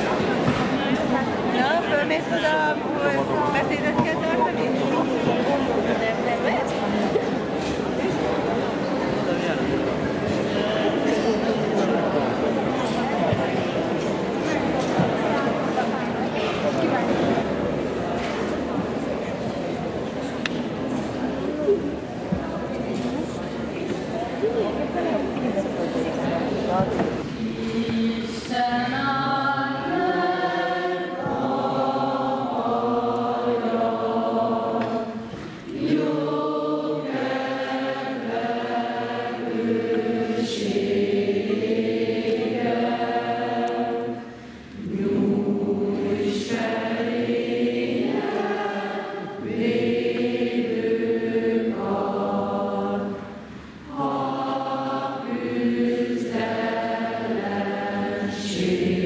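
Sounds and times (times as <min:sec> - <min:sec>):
crowd singing together: 0:00.0 - 0:59.0.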